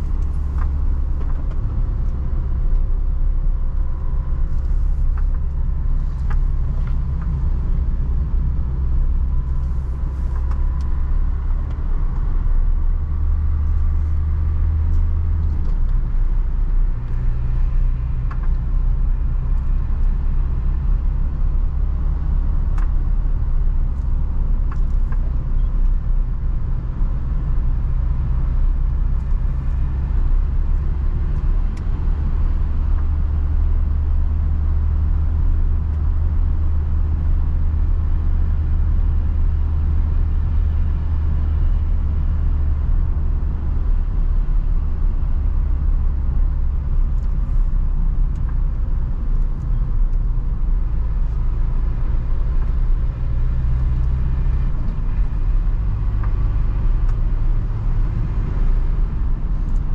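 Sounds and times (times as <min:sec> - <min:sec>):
van engine and road rumble: 0:00.0 - 0:59.9.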